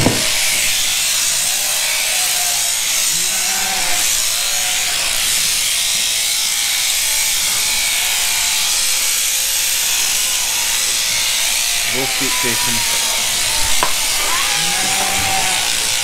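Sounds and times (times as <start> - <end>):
electric shearing handpiece running: 0.0 - 16.0
sheep bleating: 1.2 - 5.8, 6.6 - 16.0.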